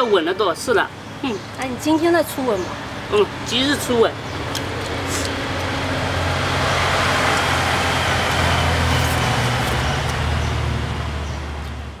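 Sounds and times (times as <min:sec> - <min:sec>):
road noise: 0:00.0 - 0:12.0
vehicle engine humming: 0:00.0 - 0:12.0.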